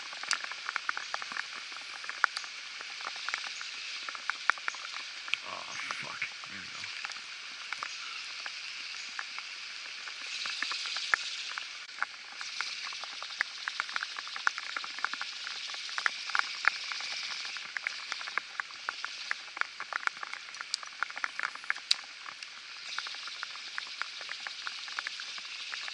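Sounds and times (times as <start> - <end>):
rain hissing: 0.0 - 25.9
raindrops ticking: 0.0 - 25.9.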